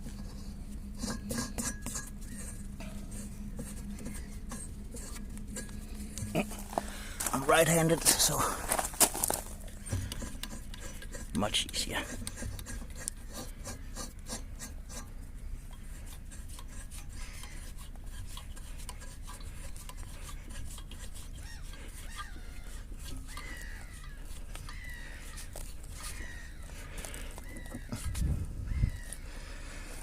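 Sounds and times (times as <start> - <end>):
metal rubbing and scraping: 0.0 - 30.0.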